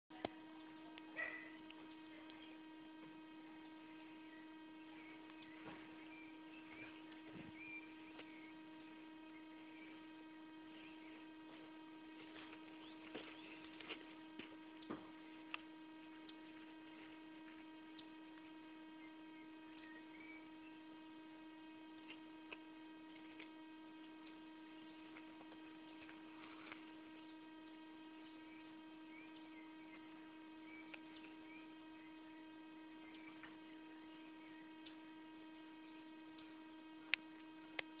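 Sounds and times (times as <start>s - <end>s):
electrical hum: 0.1s - 38.0s.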